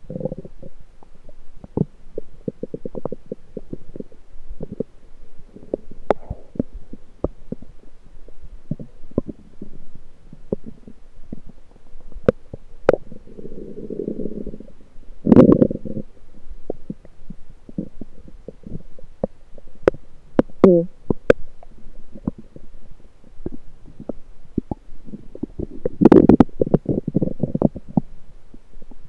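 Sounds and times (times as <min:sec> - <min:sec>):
bowel rumble and gurgles: 0:00.0 - 0:29.0.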